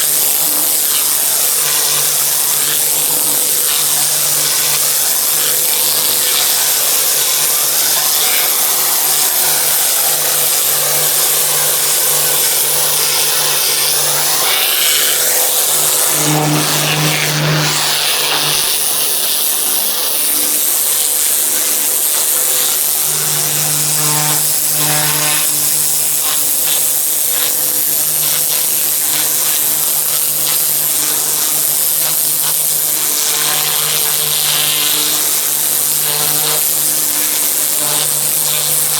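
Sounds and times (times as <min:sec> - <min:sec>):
pressure washer pump hum: 0:00.0 - 0:38.9
water jet hissing on paving: 0:00.0 - 0:38.9.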